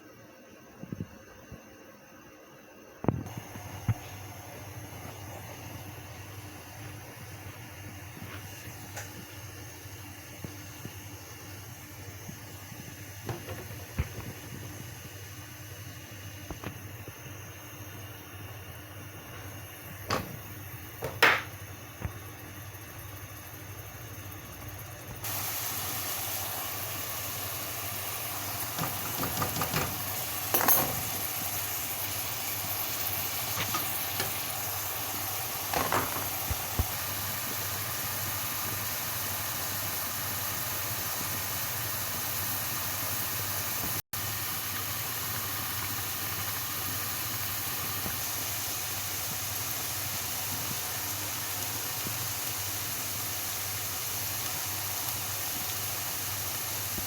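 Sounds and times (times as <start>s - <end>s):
food sizzling in hot oil: 3.3s - 57.0s.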